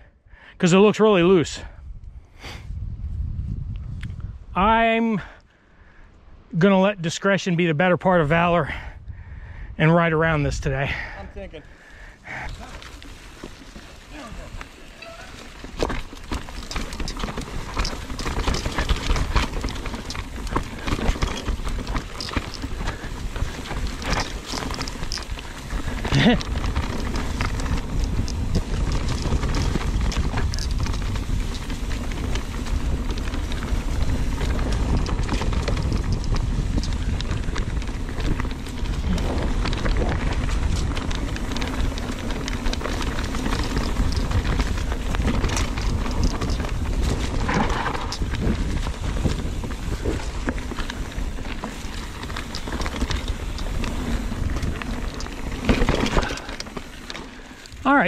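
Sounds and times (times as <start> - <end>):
bike tyres crunching on rocks: 10.0 - 58.0
bike rattling and clattering: 10.2 - 58.0.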